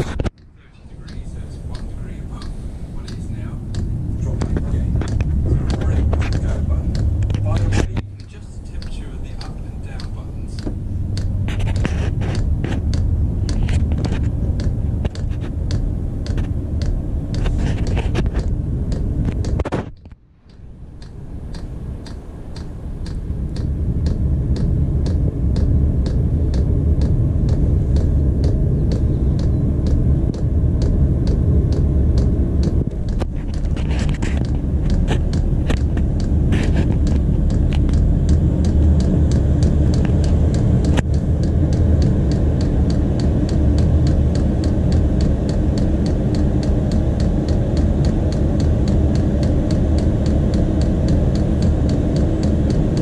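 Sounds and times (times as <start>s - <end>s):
fuel pump ticking: 0.0s - 53.0s
heater burner rumble: 0.0s - 53.0s.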